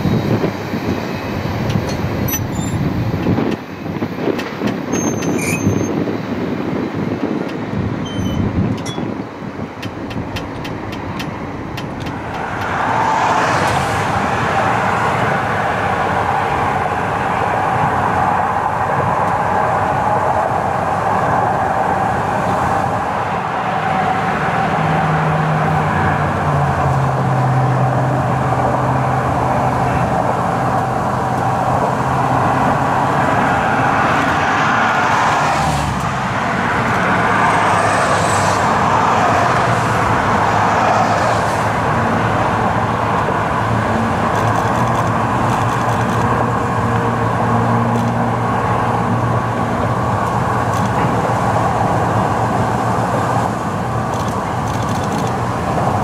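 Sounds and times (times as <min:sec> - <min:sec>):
road traffic passing: 0:00.0 - 0:56.0
train locomotive engines humming: 0:00.0 - 0:56.0.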